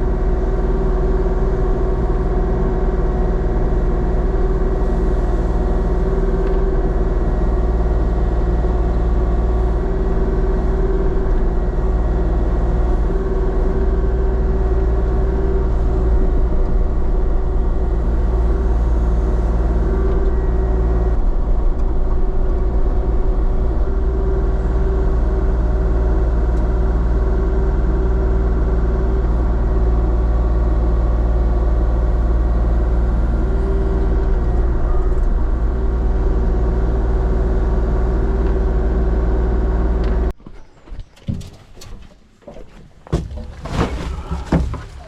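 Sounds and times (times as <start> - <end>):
diesel engine running: 0.0 - 40.4.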